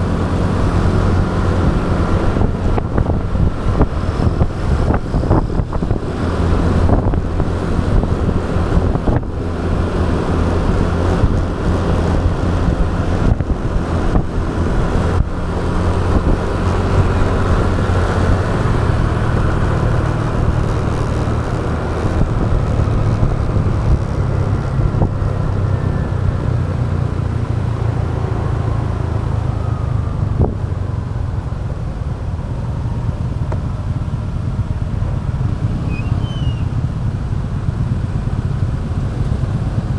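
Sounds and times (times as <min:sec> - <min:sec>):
motorbike engine humming: 0:00.0 - 0:39.9
wind rushing across microphone: 0:00.0 - 0:39.9.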